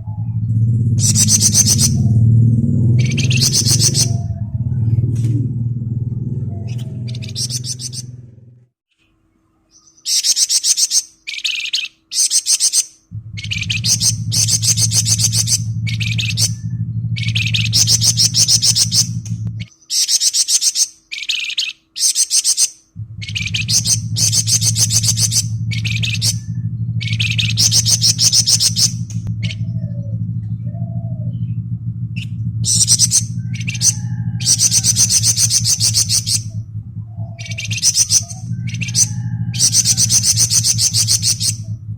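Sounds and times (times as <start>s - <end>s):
low steady hum: 0.0s - 20.1s, 20.9s - 41.9s
songbird trilling: 0.9s - 8.4s, 9.7s - 41.9s.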